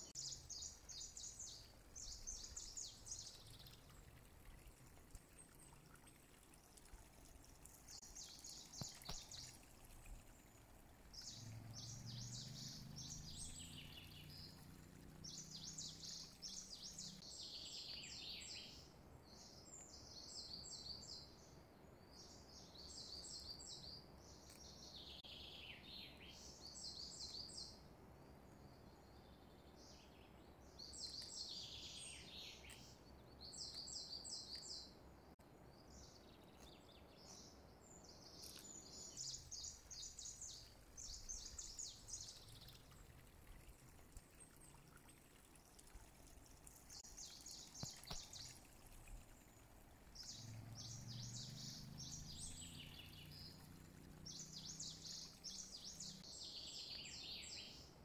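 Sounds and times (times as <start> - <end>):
faint bird chirping: 0.0 - 58.0.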